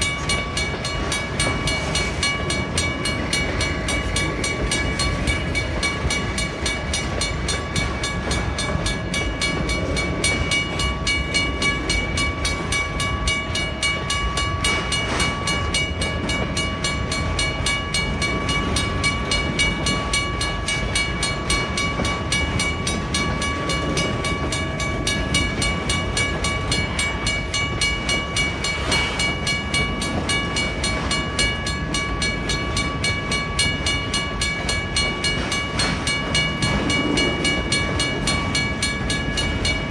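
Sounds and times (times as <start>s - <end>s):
low rumble of a train: 0.0s - 39.9s
railway crossing bell ringing: 0.0s - 39.9s.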